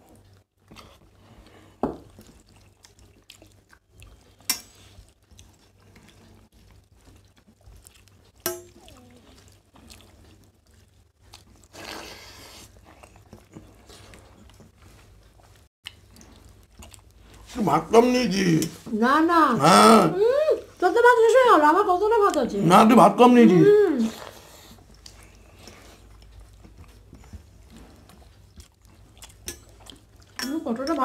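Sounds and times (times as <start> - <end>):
soft chewing: 0.0 - 18.9, 23.8 - 31.0.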